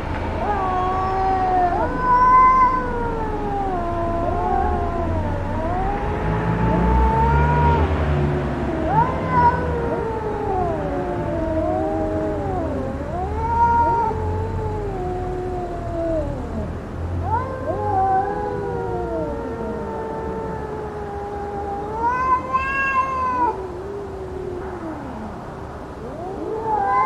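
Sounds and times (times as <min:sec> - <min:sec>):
cats yowling: 0:00.0 - 0:27.0.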